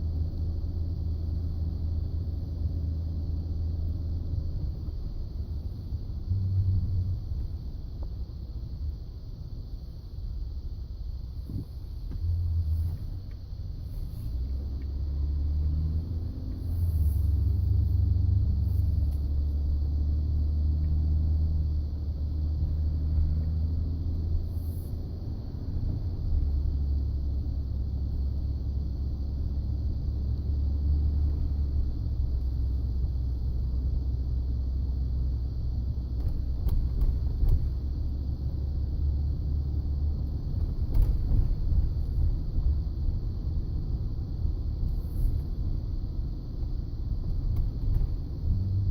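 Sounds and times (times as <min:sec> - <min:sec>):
pickup truck engine drone: 0:00.0 - 0:48.9.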